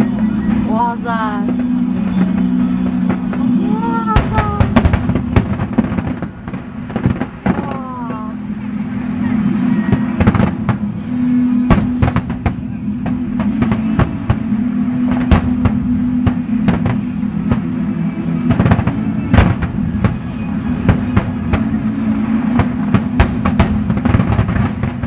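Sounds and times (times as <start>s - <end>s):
fireworks bangs and cracks: 0.0s - 25.0s
low drone music: 0.0s - 25.0s.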